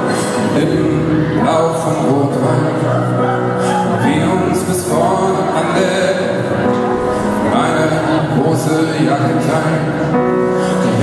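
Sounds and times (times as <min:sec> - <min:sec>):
gospel choir singing: 0:00.0 - 0:11.0
man singing lead: 0:00.0 - 0:11.0.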